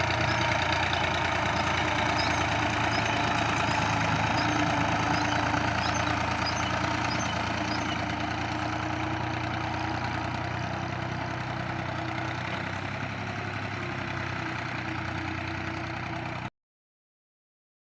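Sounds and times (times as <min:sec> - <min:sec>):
tractor engine running: 0:00.0 - 0:16.5.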